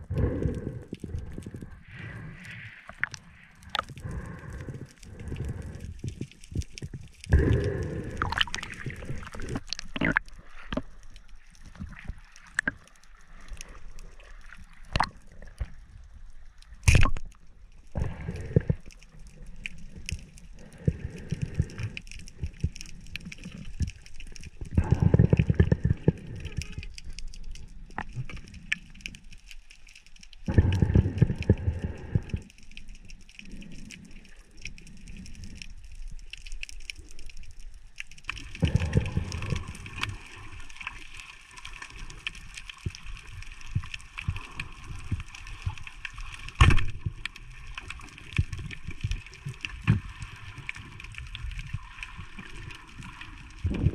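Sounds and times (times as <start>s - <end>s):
water gurgling and sloshing: 0.0s - 53.9s.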